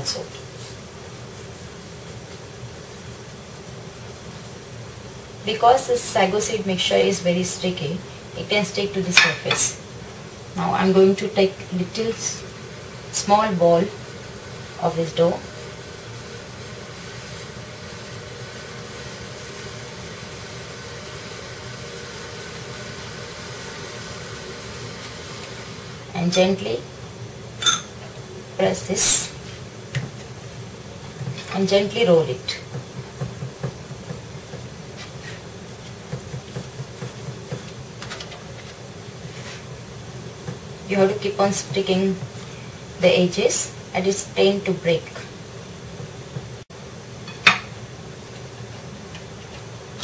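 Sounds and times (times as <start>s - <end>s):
even hiss: 0.0s - 50.0s.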